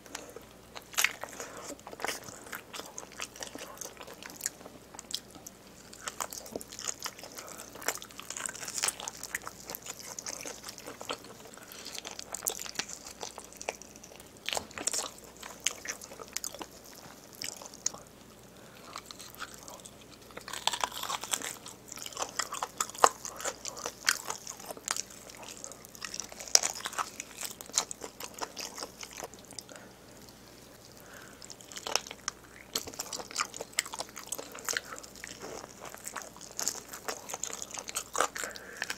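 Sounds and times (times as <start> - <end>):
chewing with wet smacks: 0.0 - 38.9.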